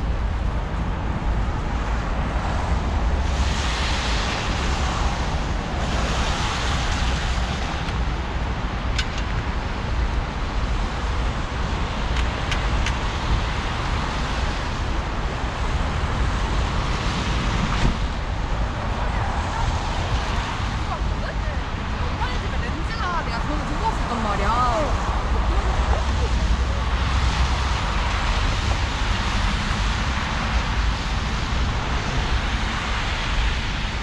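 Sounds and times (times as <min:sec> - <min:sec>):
traffic rumble with tyre hiss: 0:00.0 - 0:34.0.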